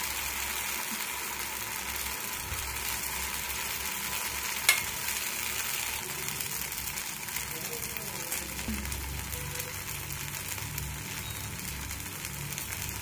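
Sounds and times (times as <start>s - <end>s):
batter sizzling in oil: 0.0s - 13.0s.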